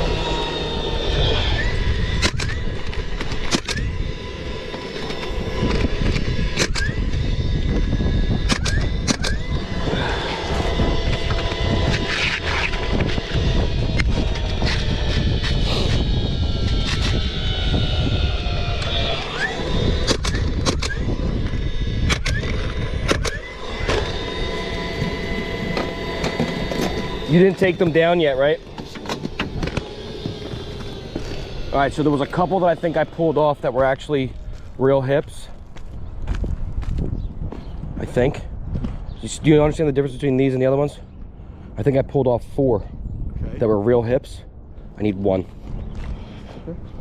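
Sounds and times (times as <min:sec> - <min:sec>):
steady low rumble: 0:00.0 - 0:47.0.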